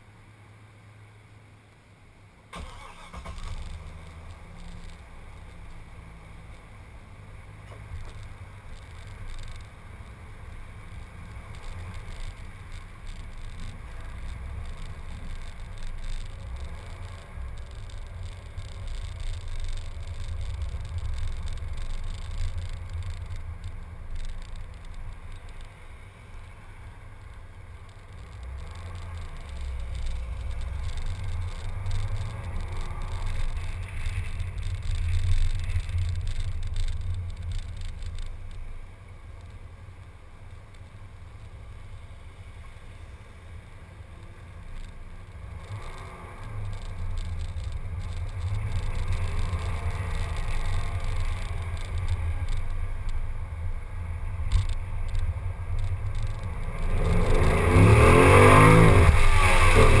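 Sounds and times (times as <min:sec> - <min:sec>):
car driving rumble: 0:00.0 - 1:00.0.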